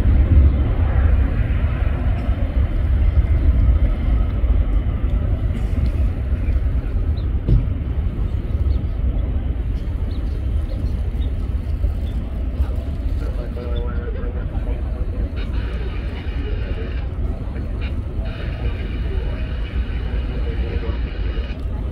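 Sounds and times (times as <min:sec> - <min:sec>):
distant jet engines rumbling: 0:00.0 - 0:21.9.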